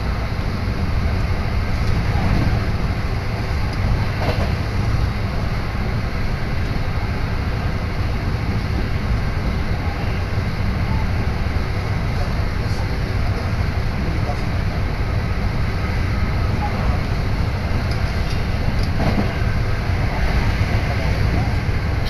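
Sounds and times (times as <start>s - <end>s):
train rumbling inside carriage: 0.0s - 22.0s.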